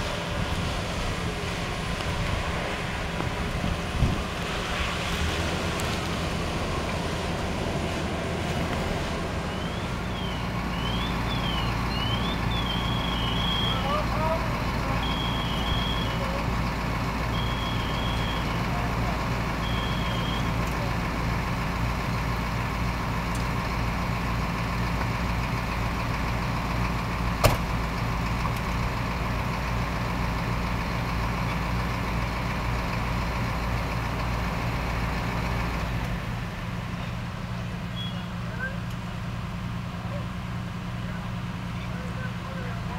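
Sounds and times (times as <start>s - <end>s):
fire truck engine drone: 0.0s - 42.9s.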